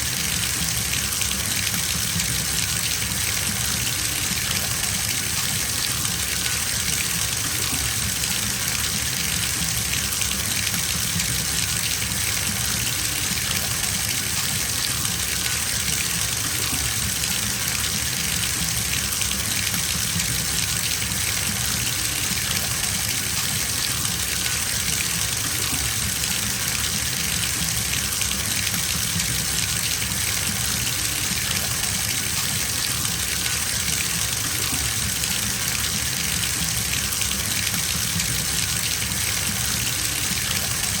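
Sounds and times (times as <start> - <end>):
tap water pouring into bathtub: 0.0 - 41.0.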